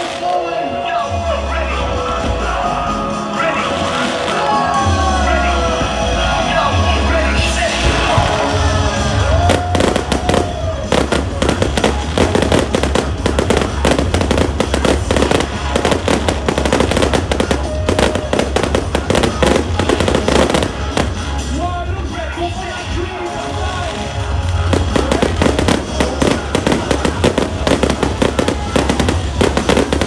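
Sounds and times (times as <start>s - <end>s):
loud music with bass: 0.0s - 30.0s
fireworks bangs and crackling: 2.3s - 6.0s, 7.7s - 30.0s.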